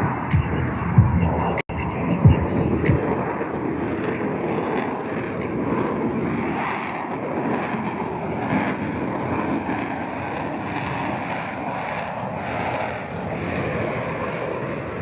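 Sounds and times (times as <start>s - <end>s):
jet engine roar with crackles: 0.0s - 15.0s.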